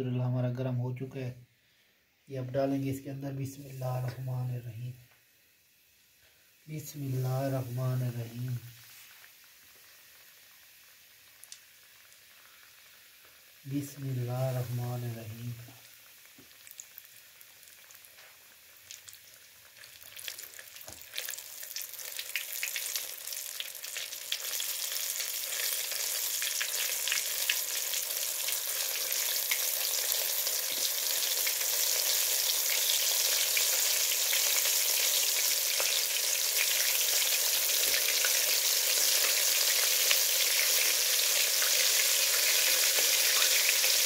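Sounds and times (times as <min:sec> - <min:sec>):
fish deep-frying in oil: 0:06.7 - 0:44.0.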